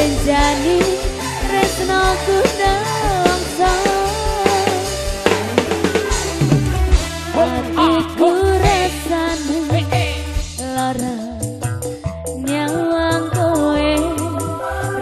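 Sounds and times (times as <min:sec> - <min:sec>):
band music over sound system: 0:00.0 - 0:15.0
woman singing into microphone: 0:00.0 - 0:15.0.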